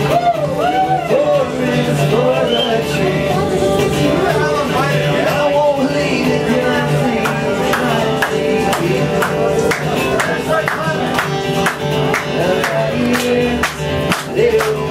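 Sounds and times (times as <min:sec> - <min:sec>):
person singing: 0:00.0 - 0:11.5, 0:12.1 - 0:14.9
acoustic guitar strummed: 0:00.0 - 0:14.9.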